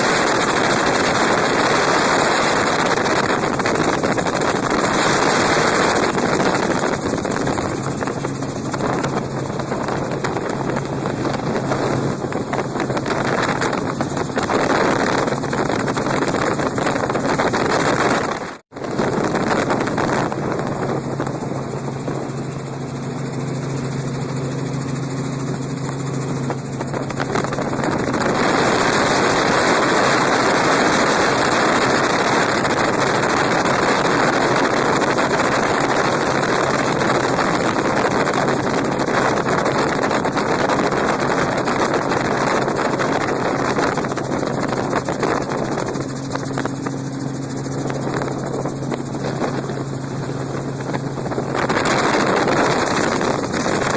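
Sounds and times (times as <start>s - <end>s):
helicopter engine and rotor hum: 0.0s - 53.9s
rush of air noise: 0.0s - 53.9s.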